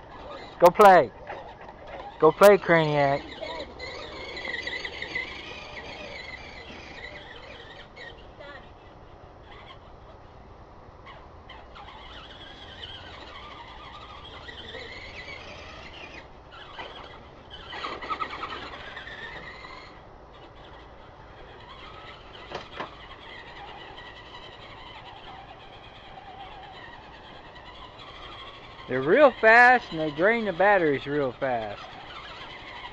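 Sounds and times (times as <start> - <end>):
toy truck electric motors whining: 0.0 - 10.4, 11.0 - 32.9.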